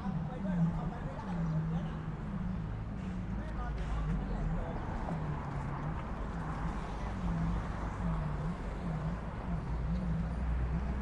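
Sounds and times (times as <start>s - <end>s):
background murmur: 0.0s - 11.0s
traffic rumble: 0.0s - 11.0s.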